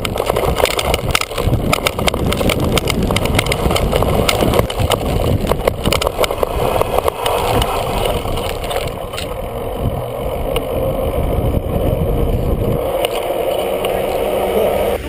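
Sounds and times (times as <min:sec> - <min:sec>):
bike and camera rattling: 0:00.0 - 0:15.0
bike tyres rumbling: 0:00.0 - 0:15.0
wind buffeting microphone: 0:00.0 - 0:15.0.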